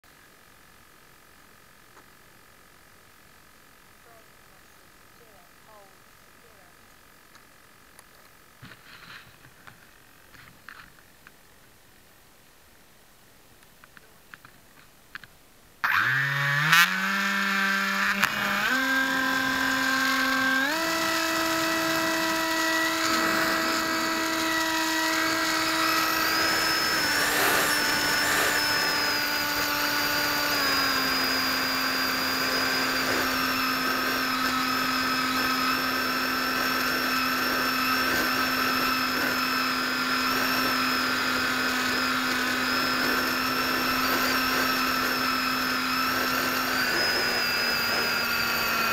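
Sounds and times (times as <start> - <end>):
electric motor and propeller whine: 0.1 - 11.0, 15.8 - 48.9.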